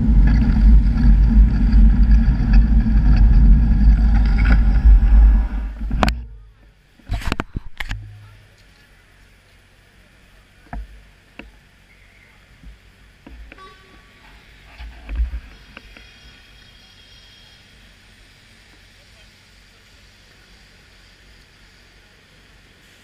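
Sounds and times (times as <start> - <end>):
low traffic hum: 0.0 - 23.0.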